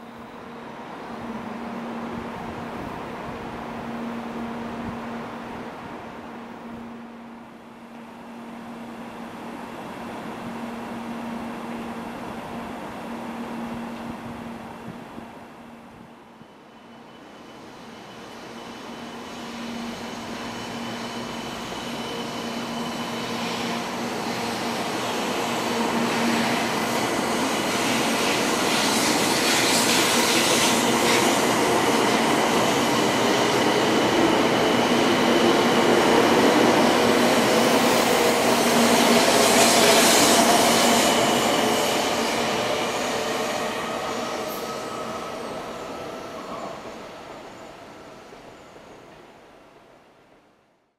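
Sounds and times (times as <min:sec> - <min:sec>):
train passing with rushing wheels: 0:00.0 - 0:50.5.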